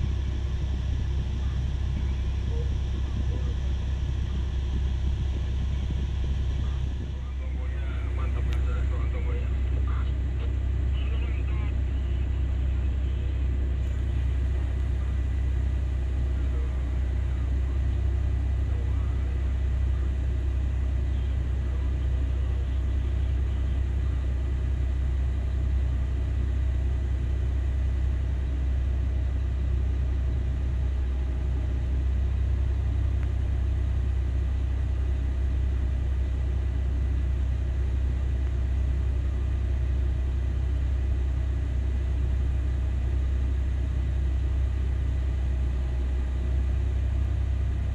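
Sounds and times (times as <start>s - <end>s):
low diesel rumble: 0.0s - 47.9s.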